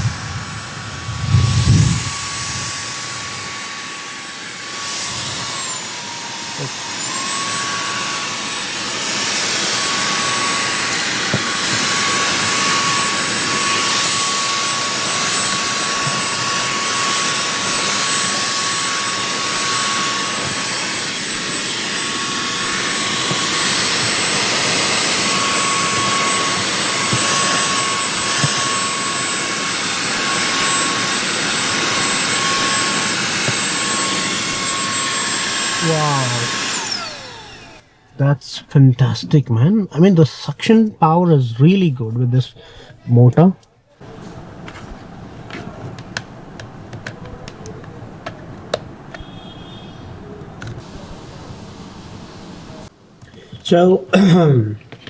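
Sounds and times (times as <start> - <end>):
handheld vacuum motor whine: 0.0 - 38.1, 44.0 - 53.5.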